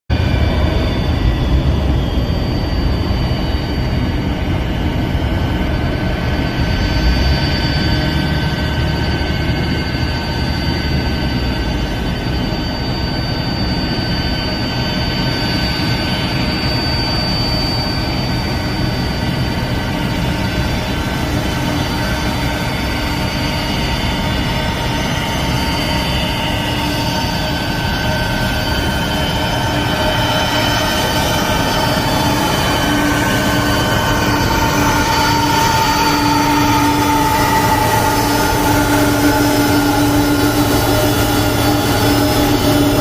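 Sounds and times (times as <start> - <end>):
high steady engine whine: 0.1 - 43.0
jet engines running: 0.1 - 43.0.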